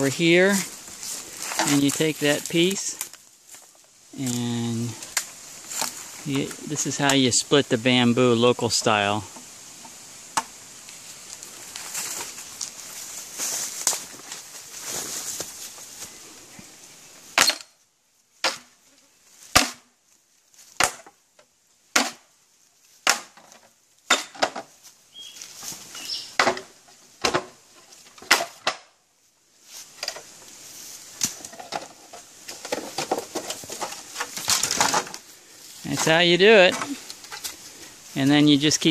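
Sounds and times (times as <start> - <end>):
bamboo crackling and splintering: 0.0 - 7.4, 8.8 - 16.1, 17.3 - 29.0, 29.6 - 38.9.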